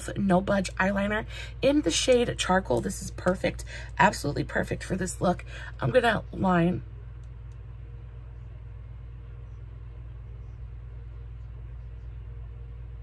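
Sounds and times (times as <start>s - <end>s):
low room hum with faint hiss: 0.0s - 13.0s.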